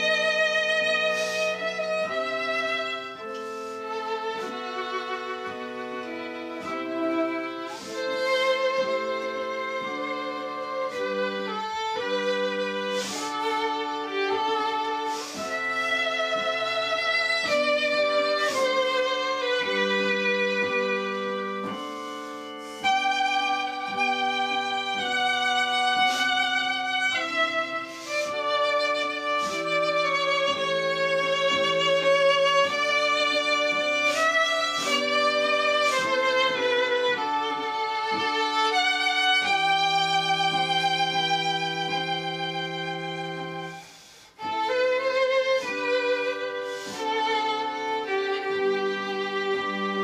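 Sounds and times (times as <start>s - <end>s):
held accompanying chords: 0.0s - 50.0s
violin melody: 0.0s - 50.0s.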